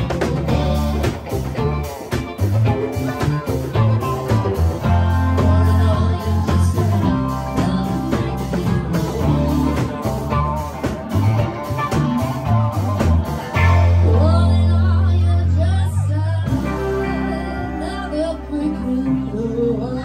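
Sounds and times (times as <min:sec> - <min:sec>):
bass line: 0:00.0 - 0:20.0
drums: 0:00.0 - 0:20.0
electric guitars playing: 0:00.0 - 0:20.0.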